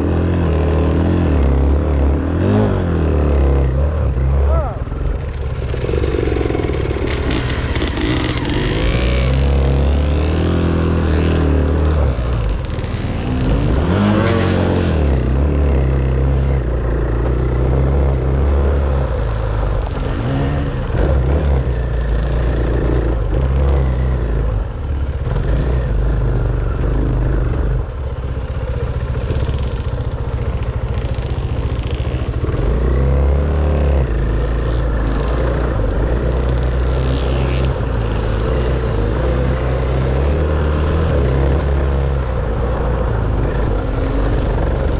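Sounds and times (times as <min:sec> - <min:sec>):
clatter over trail: 0:00.0 - 0:44.9
dirt bike engine running: 0:00.0 - 0:44.9.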